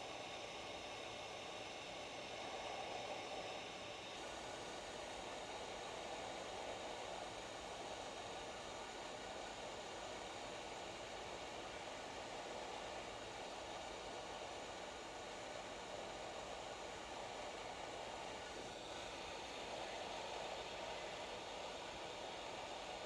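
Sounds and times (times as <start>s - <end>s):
hot air blower fan hiss: 0.0s - 23.0s.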